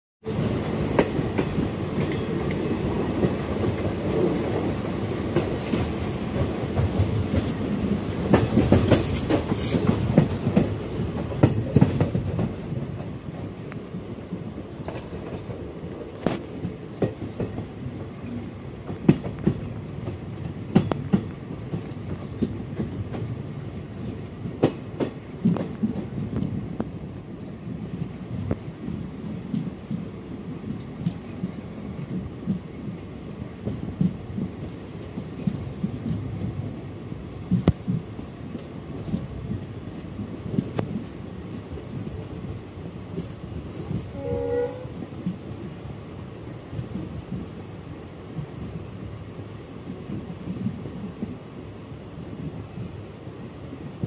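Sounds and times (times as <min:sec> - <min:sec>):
train wheels rumbling on rail: 0:00.2 - 0:54.0.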